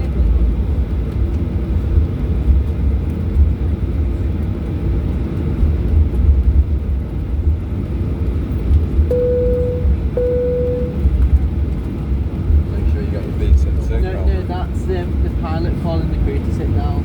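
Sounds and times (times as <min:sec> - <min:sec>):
aircraft rolling on taxiway: 0:00.0 - 0:17.0
jet engines rumbling: 0:00.0 - 0:17.0.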